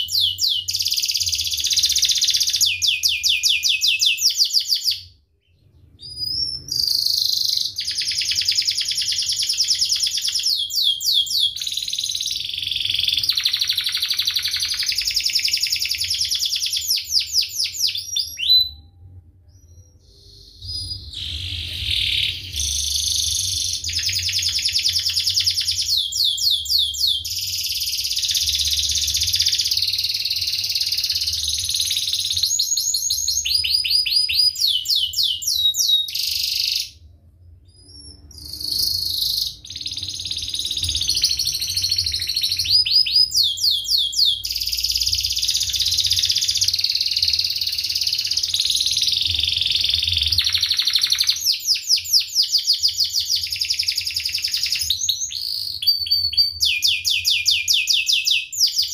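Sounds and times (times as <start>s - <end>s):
canary singing trills: 0.0s - 58.9s.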